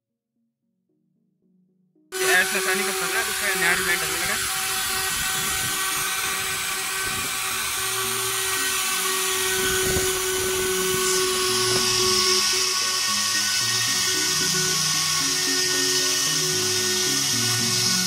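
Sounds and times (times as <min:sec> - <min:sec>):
router cutting wood: 0:02.1 - 0:18.0.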